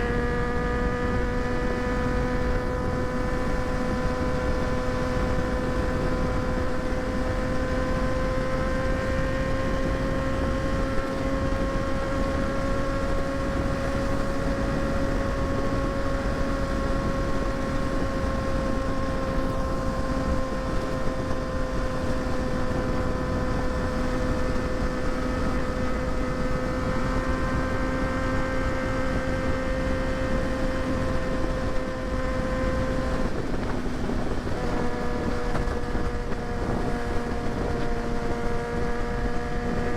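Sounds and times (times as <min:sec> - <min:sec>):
motorcycle engine cruising: 0:00.0 - 0:39.9
wind on microphone: 0:00.0 - 0:39.9.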